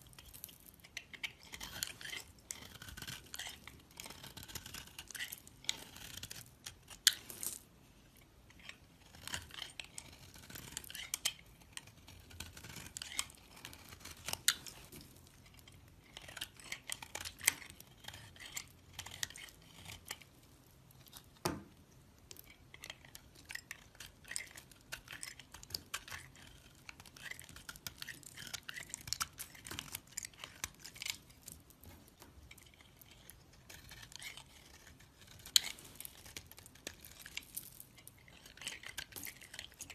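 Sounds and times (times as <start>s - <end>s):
knife cutting soap: 0.0s - 39.9s.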